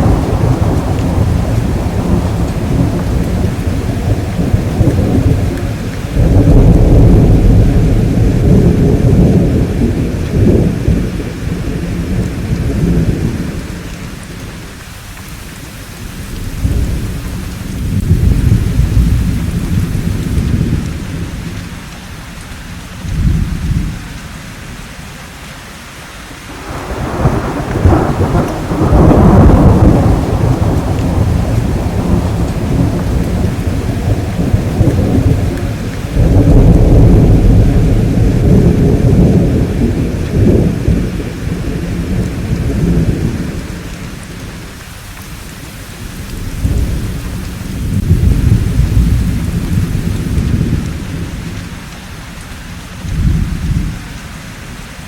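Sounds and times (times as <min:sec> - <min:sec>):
rolling thunder: 0:00.0 - 0:14.7, 0:16.0 - 0:21.9, 0:23.0 - 0:24.1, 0:26.3 - 0:52.0, 0:53.0 - 0:54.1
steady rain hiss: 0:00.0 - 0:55.0.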